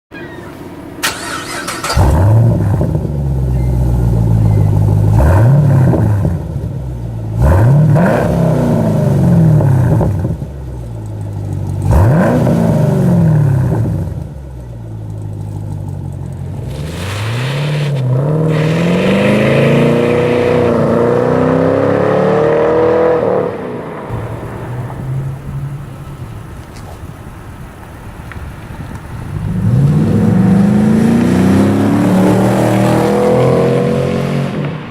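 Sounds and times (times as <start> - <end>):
car engine revving: 1.0 - 14.3, 16.2 - 26.8, 29.3 - 34.9.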